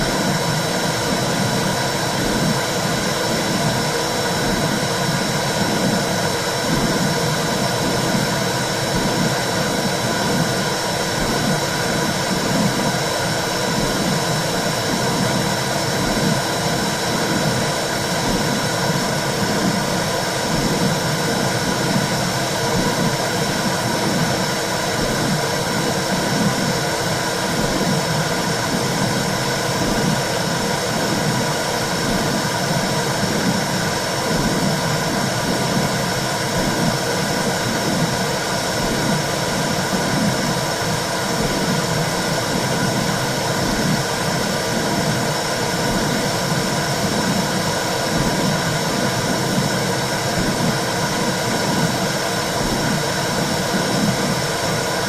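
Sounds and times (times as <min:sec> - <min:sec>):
rhythmic whooshing pulse: 0:00.0 - 0:55.0
steady rushing noise: 0:00.0 - 0:55.0.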